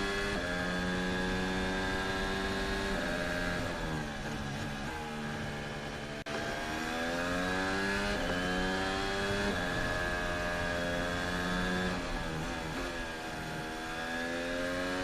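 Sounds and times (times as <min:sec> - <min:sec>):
racing car engine through gears: 0:00.0 - 0:15.0.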